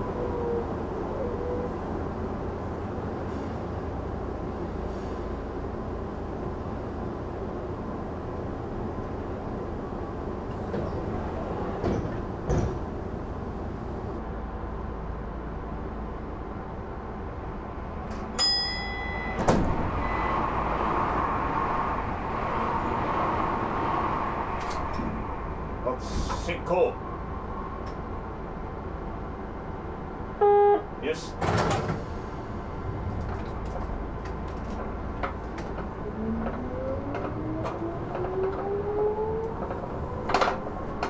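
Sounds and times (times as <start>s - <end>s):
passing train rushing: 0.0s - 30.4s, 31.4s - 41.0s.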